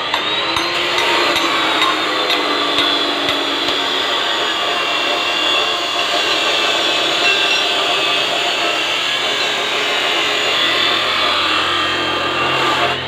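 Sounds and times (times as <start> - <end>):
abrasive power tool scraping: 0.0 - 13.0.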